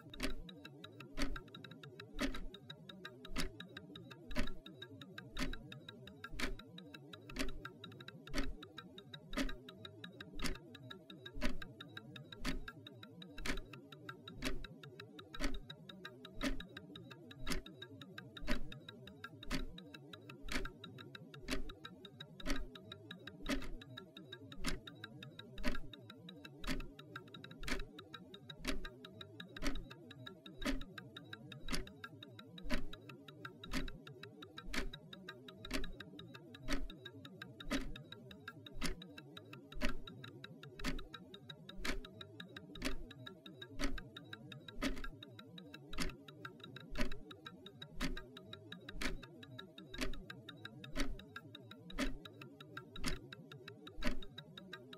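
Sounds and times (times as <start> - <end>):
clock ticking: 0.0 - 54.9.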